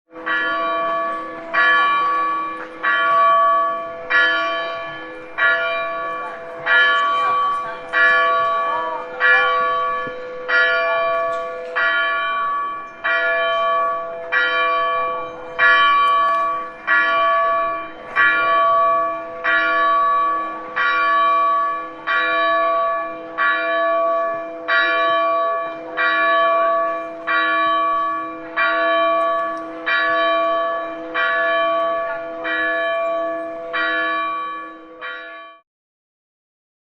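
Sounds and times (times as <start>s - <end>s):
church bell tolling: 0.1s - 35.6s.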